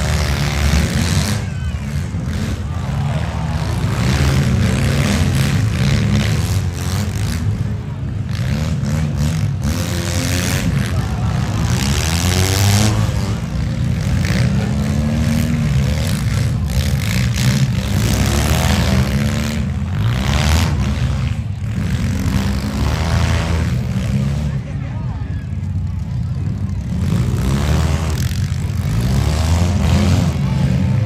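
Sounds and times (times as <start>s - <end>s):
car engines revving hard: 0.0s - 31.0s.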